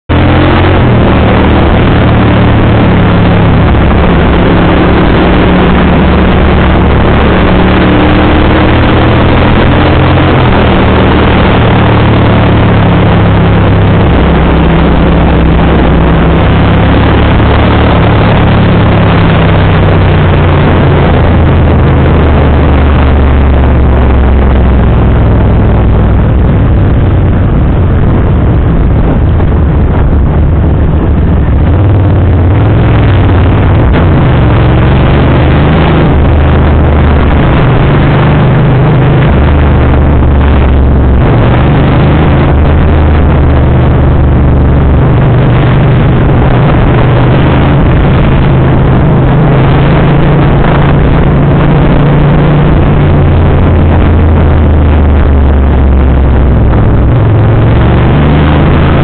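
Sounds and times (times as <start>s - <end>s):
loud rushing noise: 0.0s - 59.0s
motorcycle engine at road speed: 0.0s - 59.0s.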